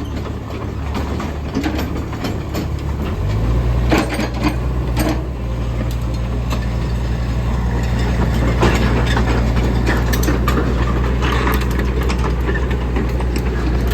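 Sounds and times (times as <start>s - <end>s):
excavator diesel engine running: 0.0s - 13.9s
metallic clicks and clanks: 0.1s - 6.8s, 7.8s - 13.9s.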